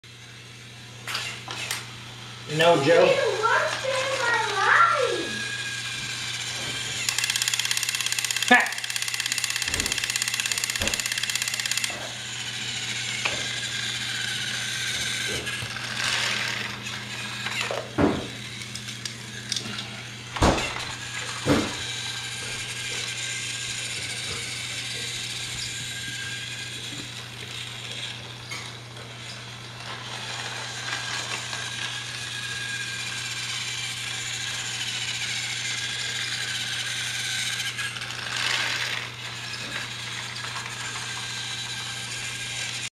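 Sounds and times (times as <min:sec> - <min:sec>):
toy train motor whirring: 0:00.1 - 0:42.9.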